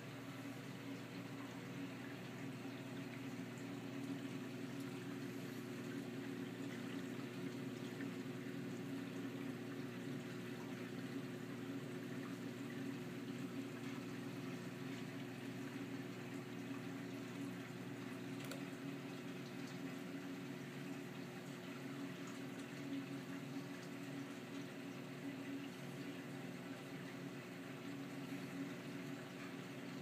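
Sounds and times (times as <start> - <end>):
low pump hum: 0.0 - 30.0.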